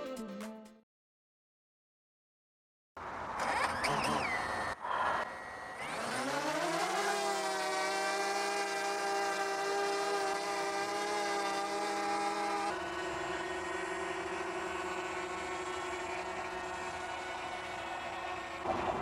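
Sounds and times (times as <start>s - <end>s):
drone propellers whining: 3.5s - 19.0s.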